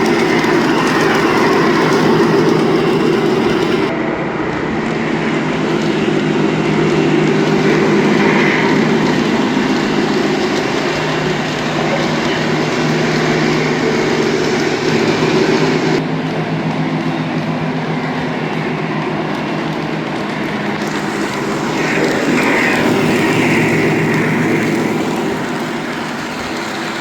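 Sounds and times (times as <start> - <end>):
wheels clicking over rail joints: 0.0 - 3.9, 5.5 - 27.0
model train rumbling: 0.0 - 27.0.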